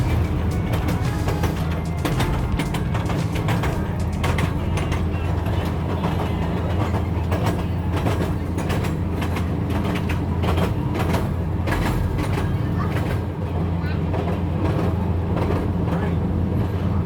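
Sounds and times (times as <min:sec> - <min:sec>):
train rumbling on rails: 0:00.0 - 0:17.0
wheels clattering over rail joints: 0:00.0 - 0:17.0.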